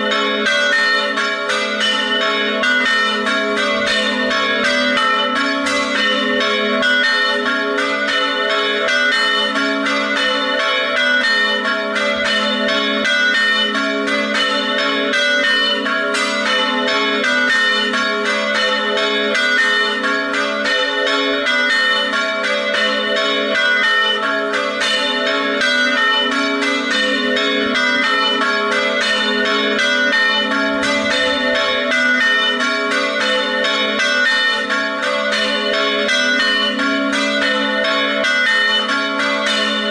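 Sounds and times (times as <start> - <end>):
church bells ringing a peal: 0.0 - 39.9.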